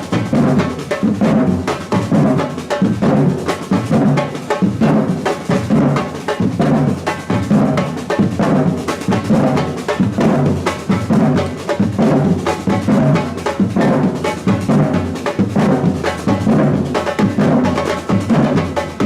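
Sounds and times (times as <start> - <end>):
samba drum band: 0.0 - 19.0
snare and hand percussion: 0.0 - 19.0.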